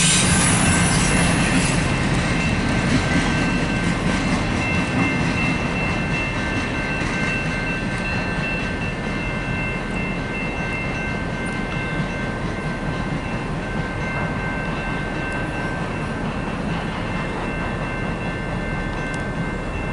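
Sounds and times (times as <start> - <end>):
freight train rumbling on rails: 0.0 - 19.9.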